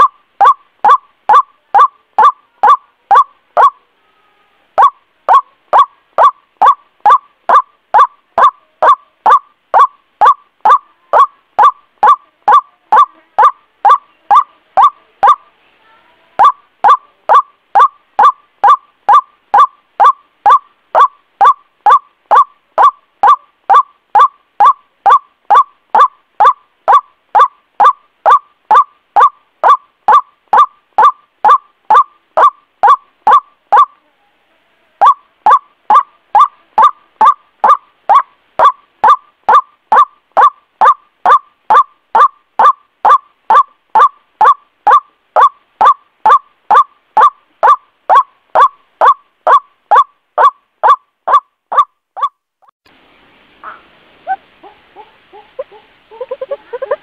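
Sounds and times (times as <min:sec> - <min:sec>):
waterhen calls: 0:00.0 - 0:03.8, 0:04.8 - 0:15.5, 0:16.4 - 0:34.1, 0:35.0 - 0:52.3, 0:53.5 - 0:57.0.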